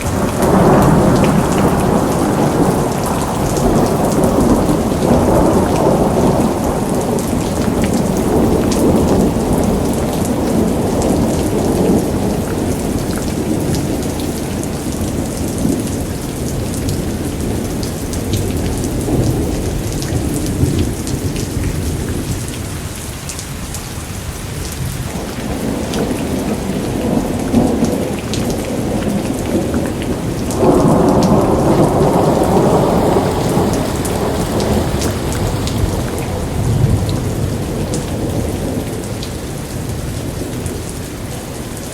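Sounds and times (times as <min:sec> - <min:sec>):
thunder rumbling: 0:00.0 - 0:22.6, 0:24.5 - 0:41.9
rain falling: 0:00.0 - 0:41.9.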